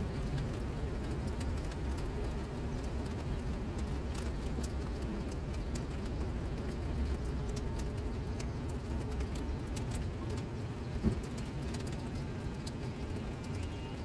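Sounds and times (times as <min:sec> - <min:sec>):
rain falling into water: 0:00.0 - 0:14.0.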